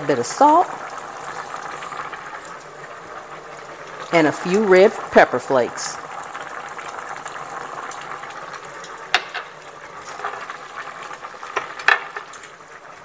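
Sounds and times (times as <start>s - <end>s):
pot boiling on stove: 0.0s - 13.0s.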